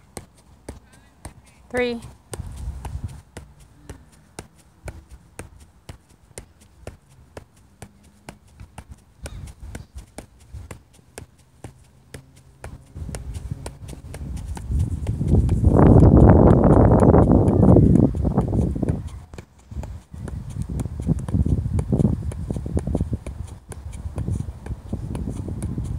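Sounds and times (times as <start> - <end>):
soccer ball taps: 0.0 - 25.9.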